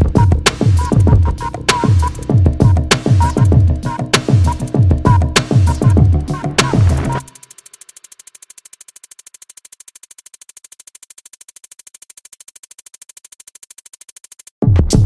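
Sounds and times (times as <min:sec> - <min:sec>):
rapid ticking clicks: 0:00.0 - 0:14.6
electronic music: 0:00.0 - 0:15.0.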